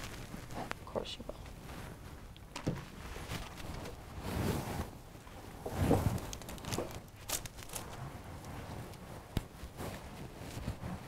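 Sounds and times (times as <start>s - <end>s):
soft rustling: 0.0s - 11.0s.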